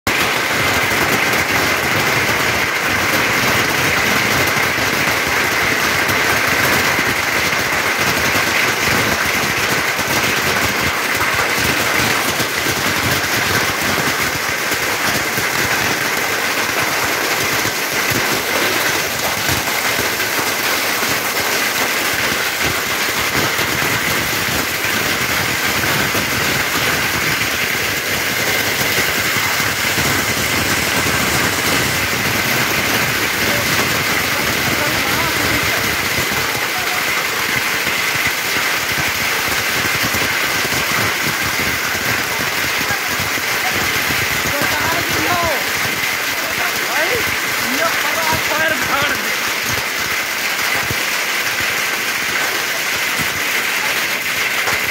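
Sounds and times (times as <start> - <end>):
heavy rain and hail pelting: 0.0 - 54.9.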